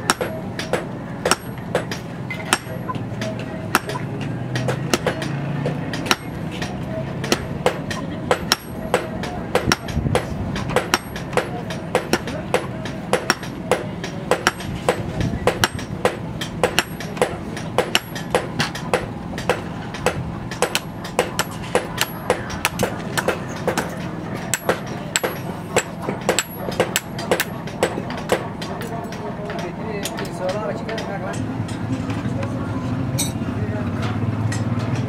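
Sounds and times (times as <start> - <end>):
hammer striking steel on anvil: 0.0 - 31.9.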